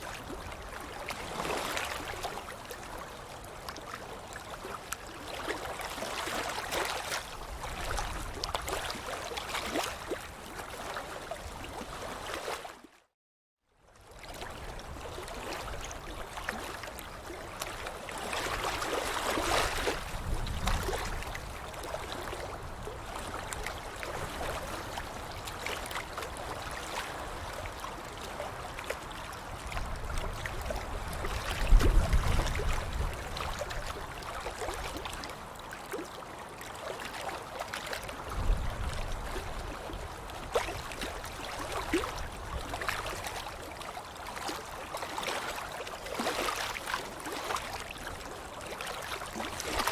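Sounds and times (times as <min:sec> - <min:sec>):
water splashing and sloshing: 0:00.0 - 0:13.2, 0:14.0 - 0:49.9.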